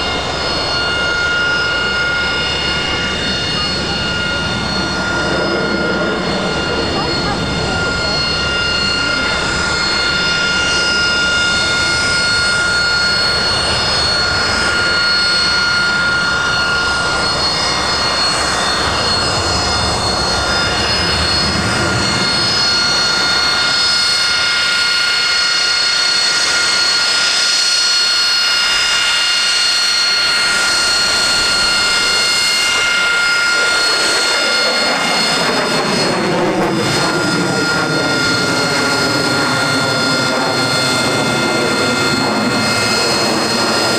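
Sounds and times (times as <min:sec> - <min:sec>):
high-pitched jet whine: 0:00.0 - 0:43.9
jet engine roar: 0:00.0 - 0:43.9.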